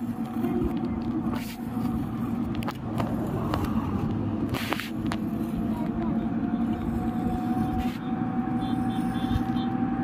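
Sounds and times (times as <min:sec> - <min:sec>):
constant hum: 0:00.0 - 0:10.0
road rumble: 0:00.0 - 0:10.0.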